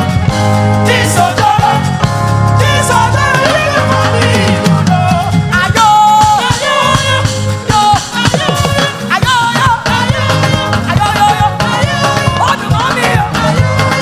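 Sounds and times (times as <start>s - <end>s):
band with bass and drums: 0.0s - 14.0s
person singing lead: 0.9s - 14.0s.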